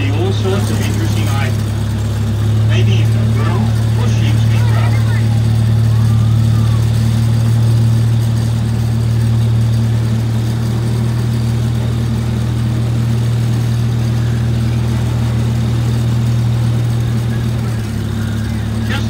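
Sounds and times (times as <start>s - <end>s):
ride train engine humming: 0.0s - 19.0s.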